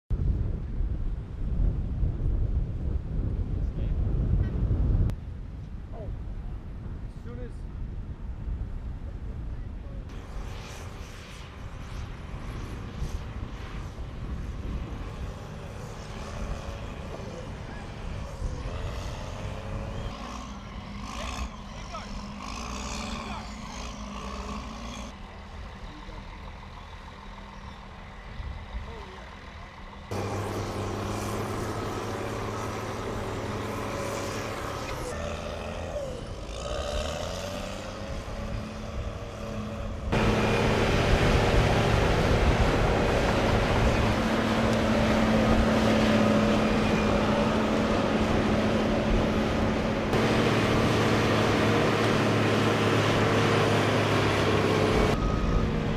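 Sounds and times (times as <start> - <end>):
bulldozer: 10.1 - 55.9
heavy diesel engines running: 10.1 - 55.9.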